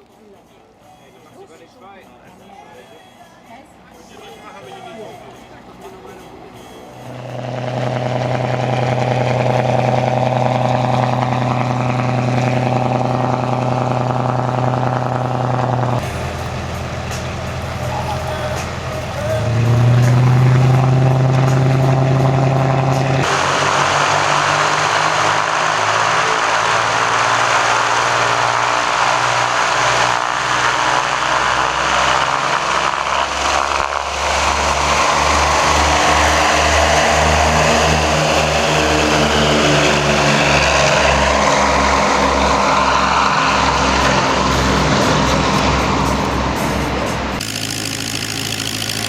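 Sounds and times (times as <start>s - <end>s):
aircraft piston engines and propellers: 3.8s - 49.0s.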